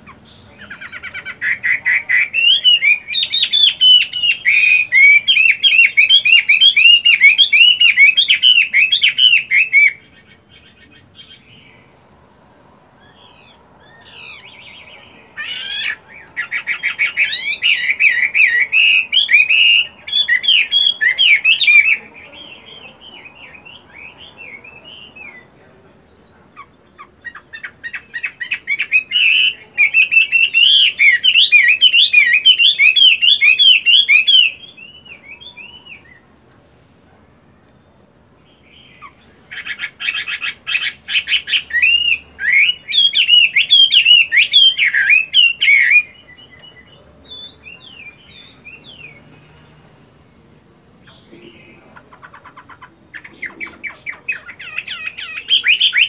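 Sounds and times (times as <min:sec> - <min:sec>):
laughing thrush singing whistled phrases: 0:00.0 - 0:12.2, 0:13.0 - 0:25.5, 0:27.3 - 0:36.3, 0:38.9 - 0:49.4, 0:52.4 - 0:56.0.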